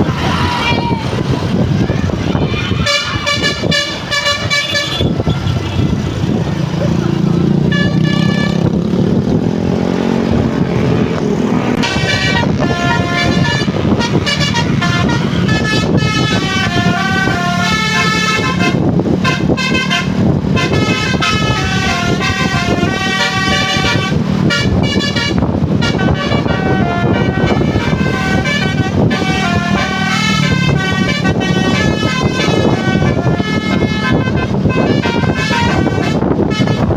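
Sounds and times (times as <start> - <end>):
bus engine running: 0.0 - 36.9
bus multi-tone horn melody: 1.1 - 6.5, 7.3 - 36.9.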